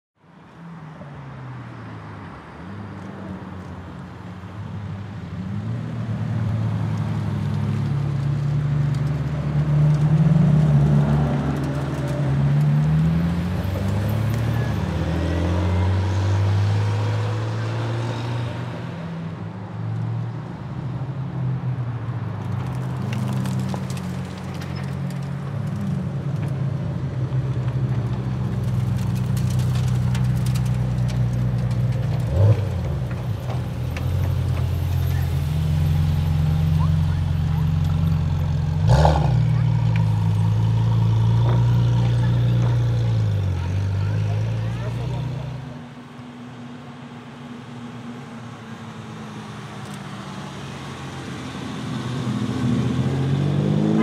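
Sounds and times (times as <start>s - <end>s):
car engines revving: 1.6s - 54.0s.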